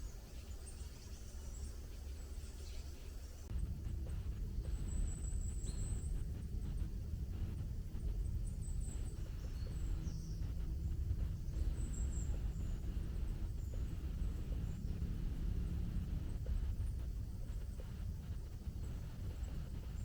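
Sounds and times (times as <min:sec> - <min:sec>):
steady low rumble: 0:03.4 - 0:20.0.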